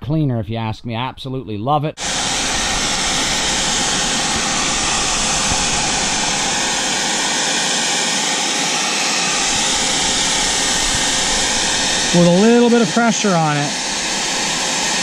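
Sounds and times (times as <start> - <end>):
hair dryer blowing: 2.0 - 15.0.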